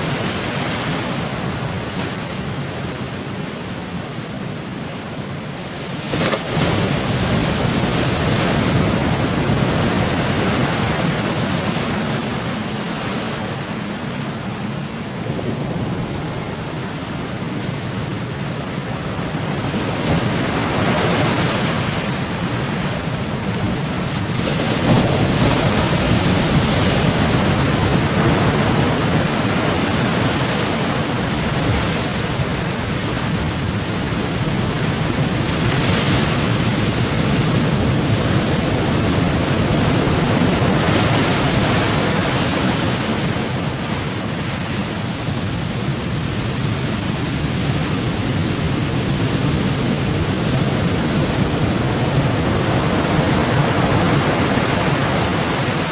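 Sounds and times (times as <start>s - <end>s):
strong wind: 0.0s - 55.9s
waves hitting a boat: 0.0s - 55.9s.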